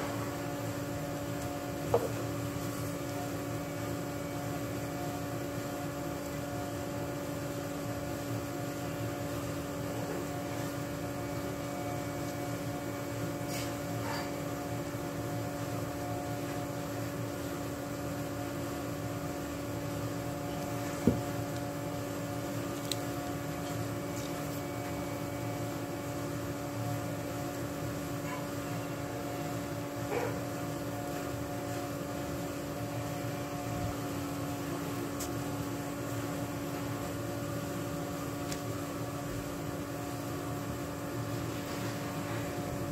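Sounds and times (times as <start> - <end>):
fan hum: 0.0 - 42.9.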